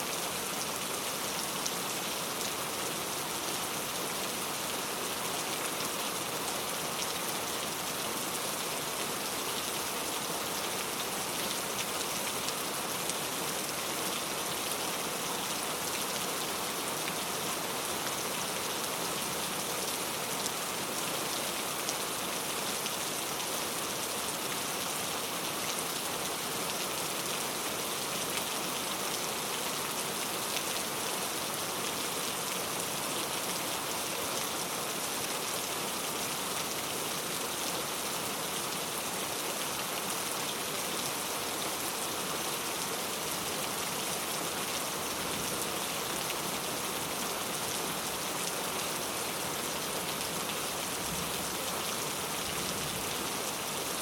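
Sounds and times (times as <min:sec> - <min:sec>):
heavy rain falling: 0:00.1 - 0:54.0.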